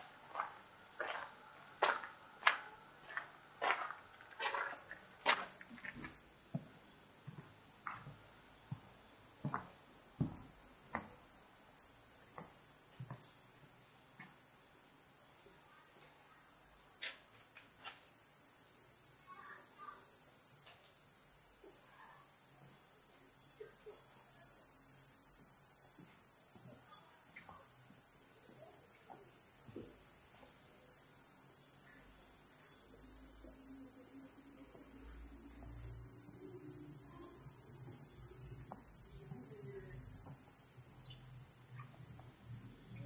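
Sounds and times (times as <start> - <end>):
cicadas droning: 0.0 - 43.0.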